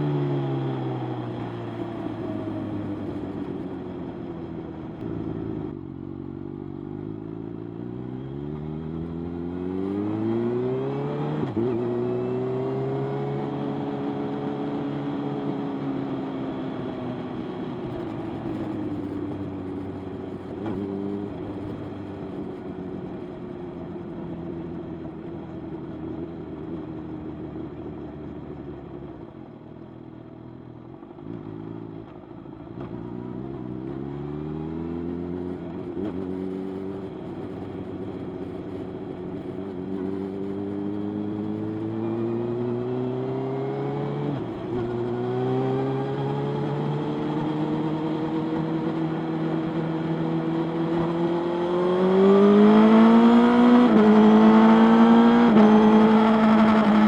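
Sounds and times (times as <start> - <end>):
motorcycle engine accelerating: 0.0 - 29.0, 29.8 - 57.0.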